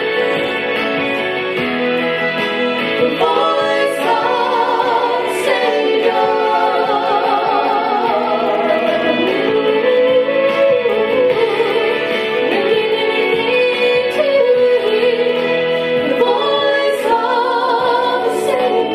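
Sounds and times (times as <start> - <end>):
instrumental backing music: 0.0 - 18.9
person singing with vibrato: 2.9 - 18.9.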